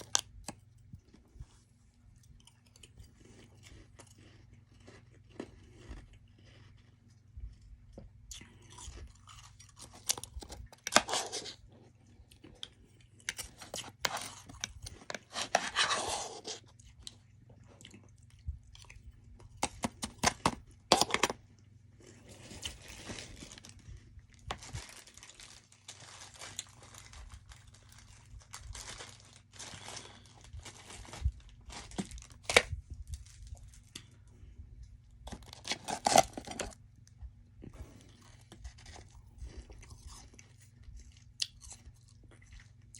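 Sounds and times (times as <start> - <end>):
chewing crisp frost: 0.0 - 42.9.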